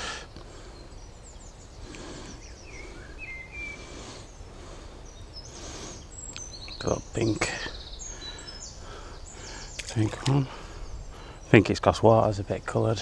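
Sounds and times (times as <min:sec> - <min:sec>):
distant birds chirping: 0:00.0 - 0:13.0
low outdoor background noise: 0:00.0 - 0:13.0.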